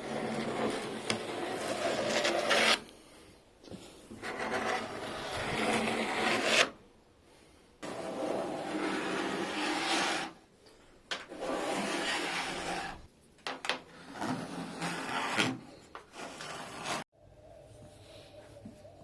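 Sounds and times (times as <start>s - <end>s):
faint steady background: 0.0s - 19.0s.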